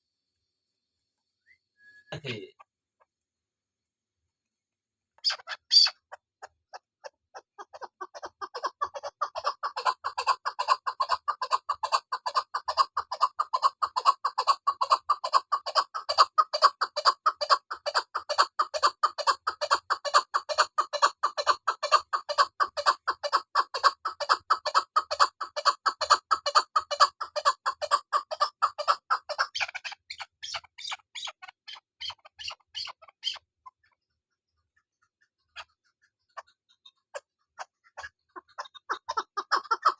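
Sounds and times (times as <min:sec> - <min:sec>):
partridge clucking calls: 0:05.2 - 0:39.9.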